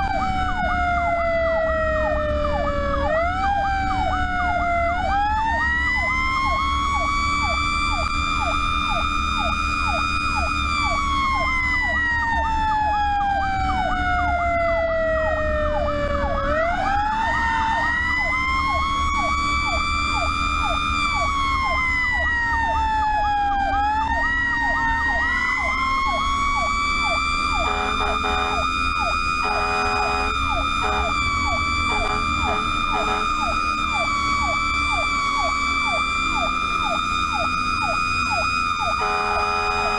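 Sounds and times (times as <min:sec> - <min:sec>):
engine and road hum: 0:00.0 - 0:39.9
fast yelping siren: 0:00.0 - 0:39.9
slow wailing siren: 0:00.0 - 0:39.9.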